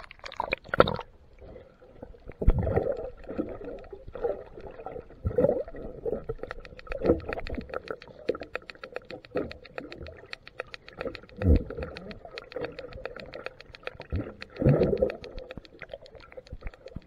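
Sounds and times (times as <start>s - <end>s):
splash and bubbles: 0.0s - 10.3s, 10.9s - 17.0s
muffled underwater gurgling: 2.4s - 17.0s.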